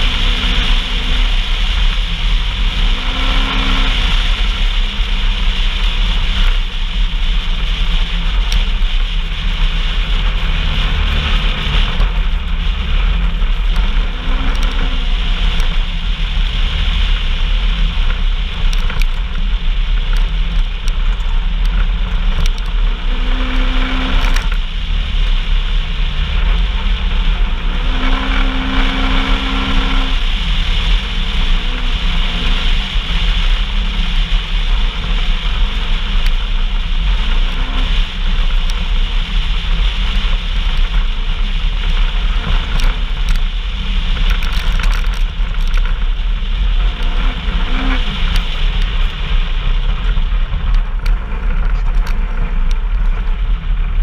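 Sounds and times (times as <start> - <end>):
off-road vehicle engine running: 0.0 - 54.0
ride noise: 0.0 - 54.0.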